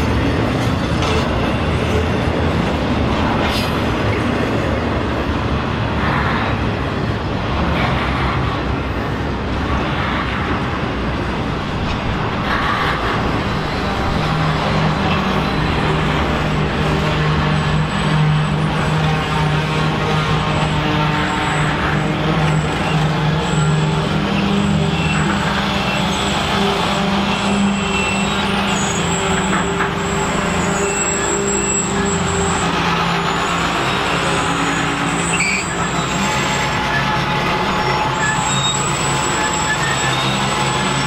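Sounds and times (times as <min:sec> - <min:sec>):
steel wheels clattering on rail: 0:00.0 - 0:05.4, 0:11.7 - 0:41.0.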